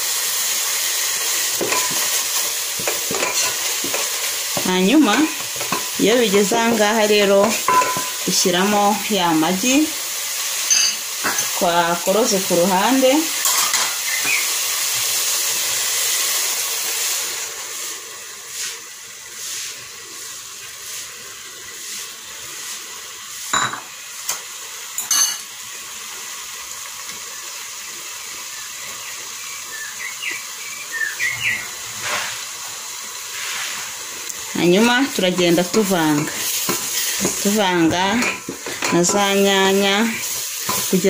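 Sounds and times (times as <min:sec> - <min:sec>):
eggs sizzling in sauce: 0:00.0 - 0:41.0.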